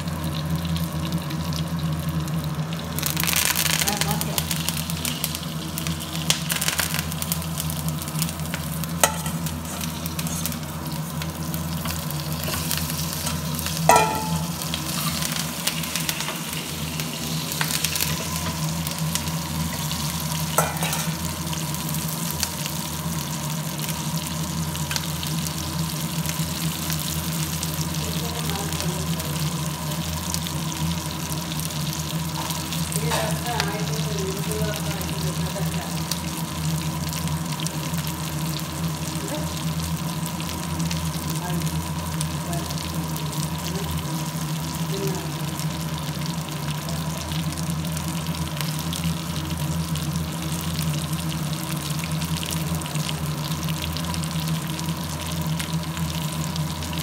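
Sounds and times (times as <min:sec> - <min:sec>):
chicken sizzling in oil: 0:00.0 - 0:57.0
steady low hum: 0:00.3 - 0:57.0.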